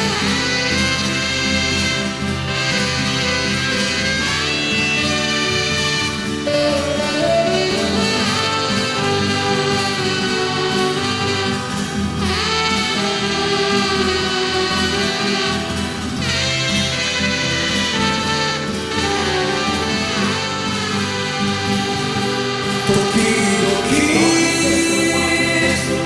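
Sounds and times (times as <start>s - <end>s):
rock band instrumental: 0.4s - 20.4s, 21.1s - 26.0s.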